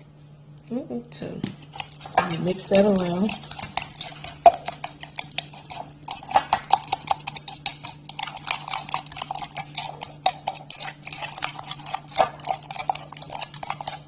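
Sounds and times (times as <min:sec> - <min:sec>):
spoon clinking and scraping bowl: 0:01.8 - 0:14.0.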